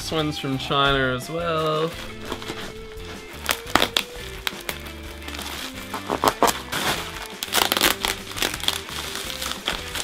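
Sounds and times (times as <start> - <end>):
background music: 0.0 - 10.0
plastic packaging crinkling: 1.6 - 10.0.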